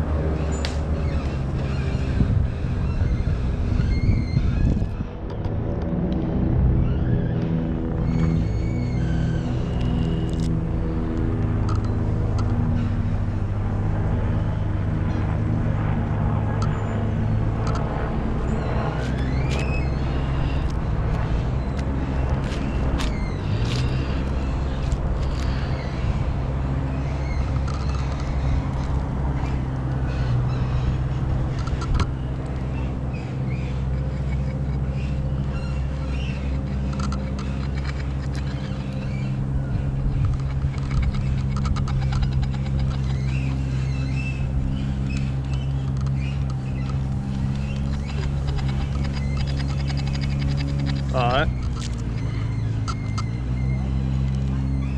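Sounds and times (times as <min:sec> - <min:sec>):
engine idling hum: 0:00.0 - 0:54.9.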